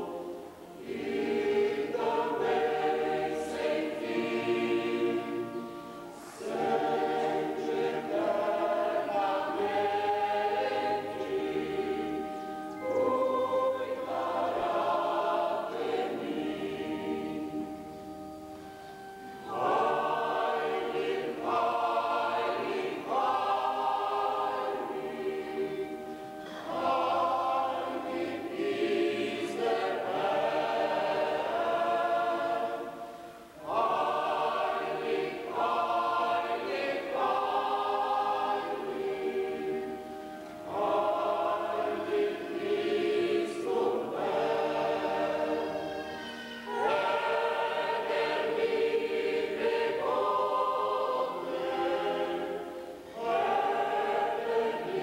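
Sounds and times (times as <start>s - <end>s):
mixed choir singing a hymn: 0.0s - 55.0s.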